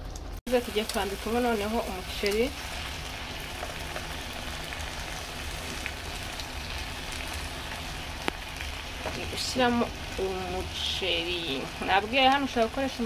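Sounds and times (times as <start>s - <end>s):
sauce sizzling in a pan: 0.5s - 13.0s.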